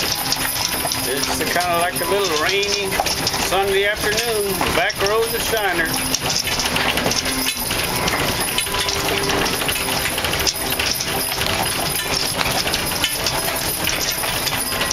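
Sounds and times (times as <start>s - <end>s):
harness jingling: 0.0s - 14.9s
hooves clopping: 0.0s - 14.9s
wagon rattling on dirt road: 0.0s - 14.9s.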